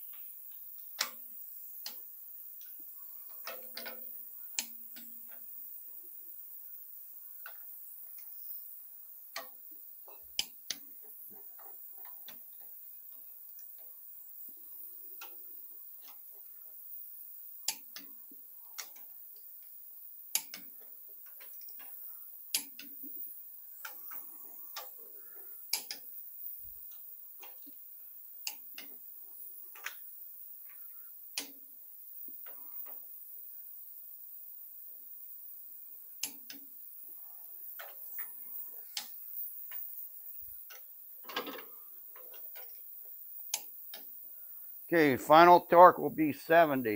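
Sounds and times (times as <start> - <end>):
ratchet clicks: 0.0 - 44.8
torque wrench clicking: 0.0 - 44.8.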